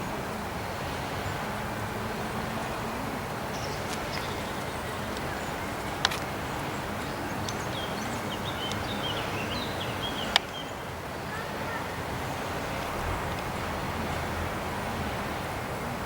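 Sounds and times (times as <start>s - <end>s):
outdoor background noise: 0.0s - 16.0s
small birds chirping: 0.8s - 16.0s.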